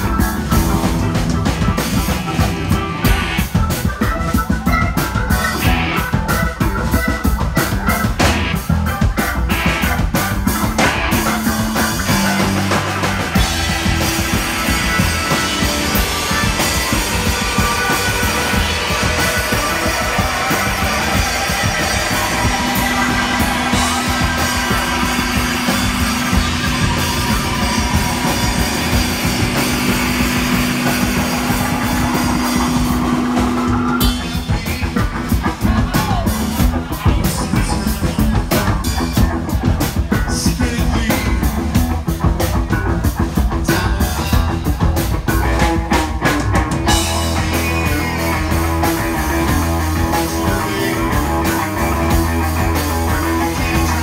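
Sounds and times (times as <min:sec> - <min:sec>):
bass guitar: 0:00.0 - 0:54.0
drum and cymbal hits: 0:00.0 - 0:54.0
electric guitar: 0:00.0 - 0:54.0.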